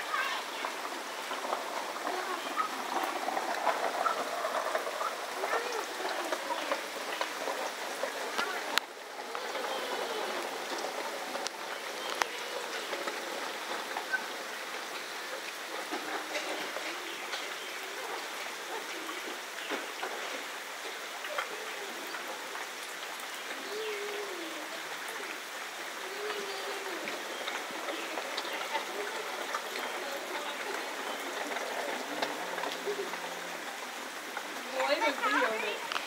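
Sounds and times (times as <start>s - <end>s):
raindrops ticking close by: 0.0s - 36.0s
steady rain falling: 0.0s - 36.0s.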